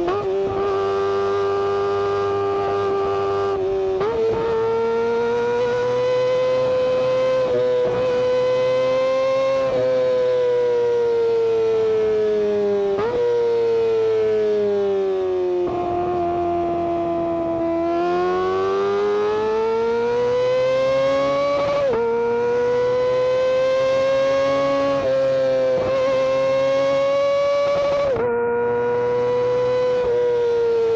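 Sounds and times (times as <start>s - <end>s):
motorcycle engine wailing at high revs: 0.0s - 30.9s.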